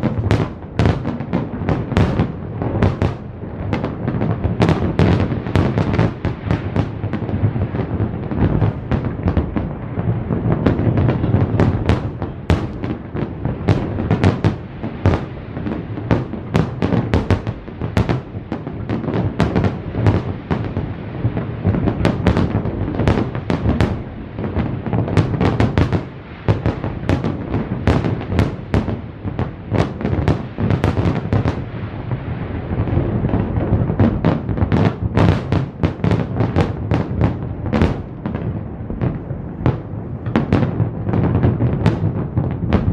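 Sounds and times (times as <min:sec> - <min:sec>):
fireworks bangs and crackles: 0:00.0 - 0:42.9
fireworks booming: 0:00.0 - 0:42.9.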